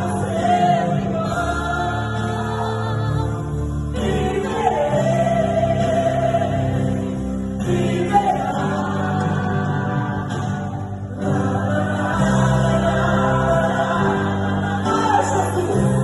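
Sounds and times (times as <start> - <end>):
choir singing a hymn: 0.0 - 16.0
low musical accompaniment: 0.0 - 16.0.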